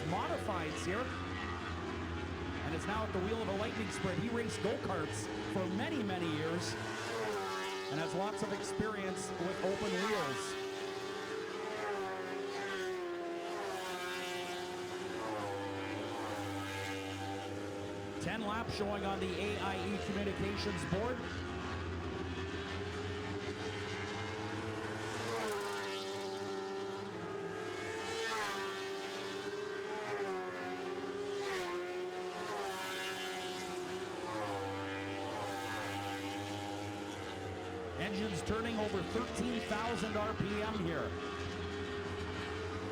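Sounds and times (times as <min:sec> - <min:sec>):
racing cars high-revving engines: 0:00.0 - 0:42.9.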